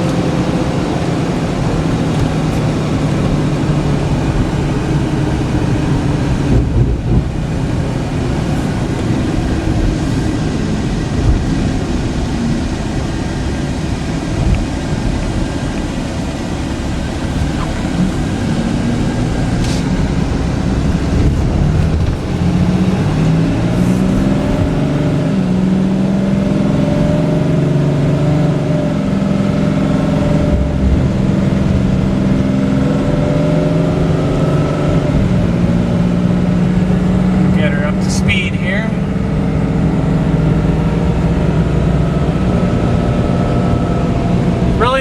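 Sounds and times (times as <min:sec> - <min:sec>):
diesel truck engine: 0:00.0 - 0:45.0
road noise: 0:00.0 - 0:45.0.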